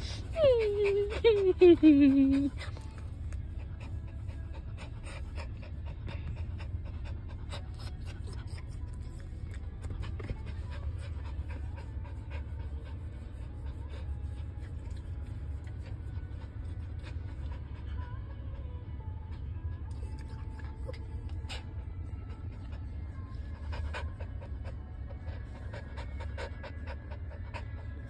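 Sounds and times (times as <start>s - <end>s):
small dog panting: 0.0s - 28.0s
steady low rumble: 0.0s - 28.0s.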